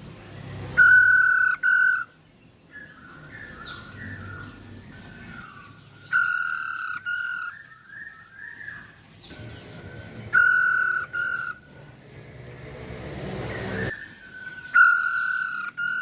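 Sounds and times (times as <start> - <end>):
bird calling loud level calls: 0.7 - 2.2, 2.8 - 11.8, 13.5 - 16.0.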